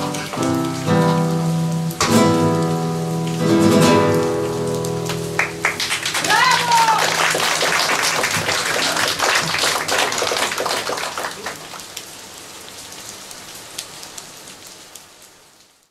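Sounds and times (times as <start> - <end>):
rain falling: 0.0 - 15.9.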